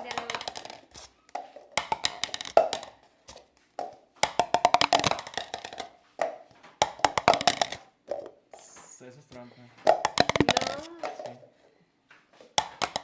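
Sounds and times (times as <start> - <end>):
cups tapping on tabletop: 0.0 - 8.4, 9.8 - 11.4, 12.4 - 13.0.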